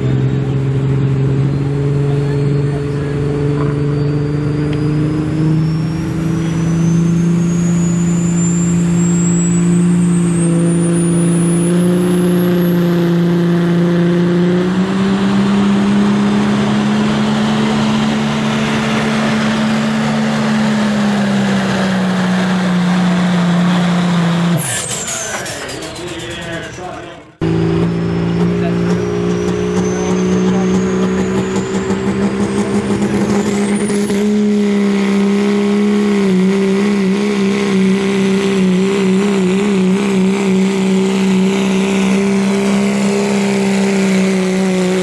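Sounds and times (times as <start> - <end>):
diesel truck engine at full throttle: 0.0 - 45.0
turbocharger whistle: 1.2 - 26.8, 27.4 - 45.0.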